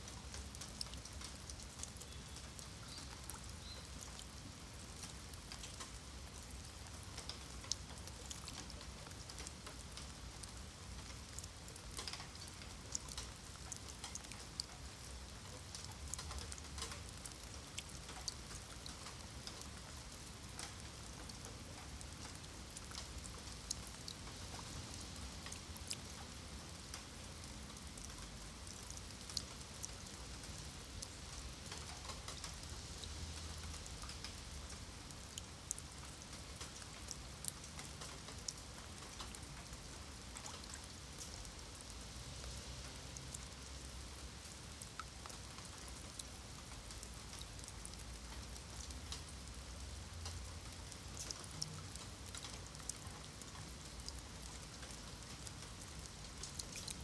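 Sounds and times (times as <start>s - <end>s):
rain on paving stones: 0.0s - 57.0s.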